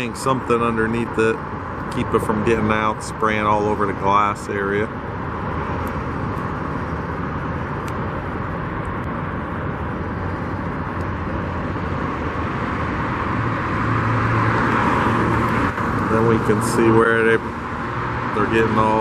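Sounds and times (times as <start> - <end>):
road traffic noise: 0.0 - 19.0
vehicle approaching: 0.0 - 19.0.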